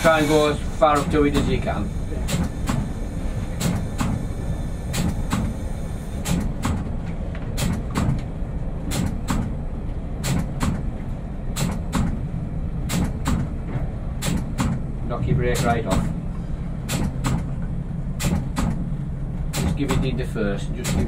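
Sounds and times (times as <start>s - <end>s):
train wheels clicking over rail joints: 0.0s - 9.6s, 10.2s - 21.0s.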